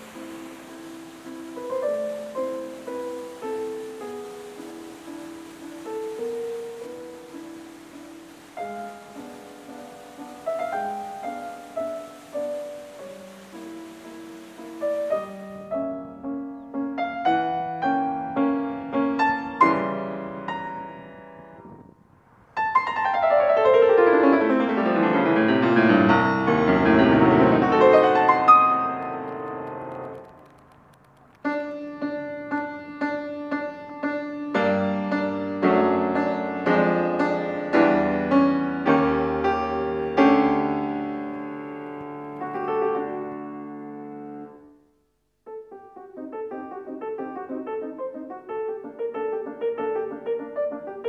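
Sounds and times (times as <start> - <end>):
piano music: 0.0 - 21.8, 22.6 - 30.6, 31.4 - 44.7, 45.5 - 51.0.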